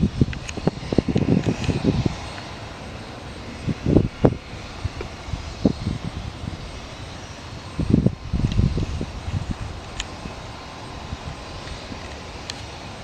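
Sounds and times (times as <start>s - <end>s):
helicopter engines and rotor drone: 0.0s - 13.0s
wind buffeting microphone: 0.0s - 13.0s.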